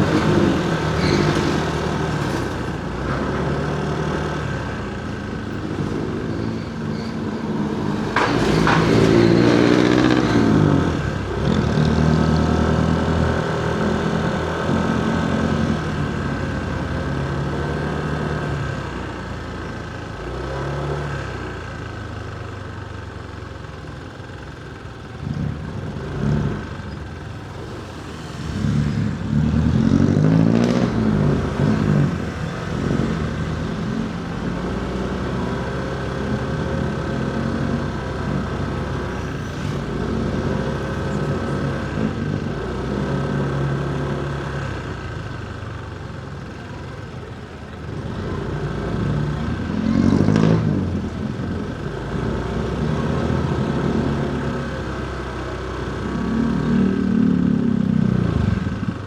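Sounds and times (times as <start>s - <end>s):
motorcycle engine revving: 0.0s - 19.5s, 24.8s - 59.0s
traffic noise: 0.0s - 59.0s.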